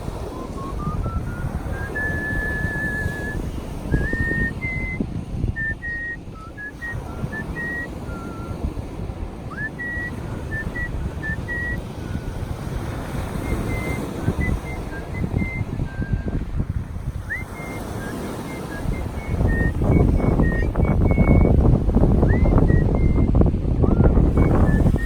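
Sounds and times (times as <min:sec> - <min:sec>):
person whistling a melody: 0:00.1 - 0:08.8, 0:09.4 - 0:16.5, 0:17.1 - 0:25.0.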